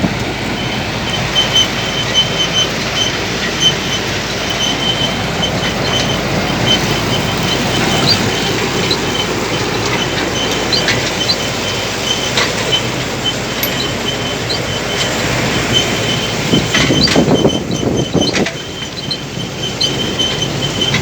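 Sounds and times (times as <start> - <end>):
machinery running: 0.0 - 21.0
high-pitched squeak: 1.1 - 21.0.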